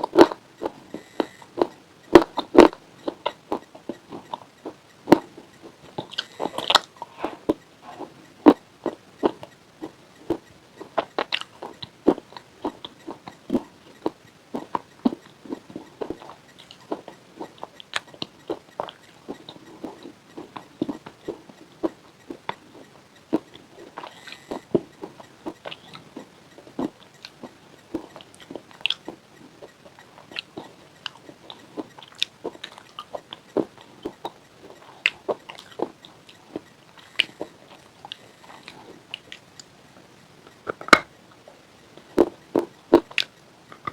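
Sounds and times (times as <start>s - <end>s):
chips crunching being chewed: 0.0s - 39.7s.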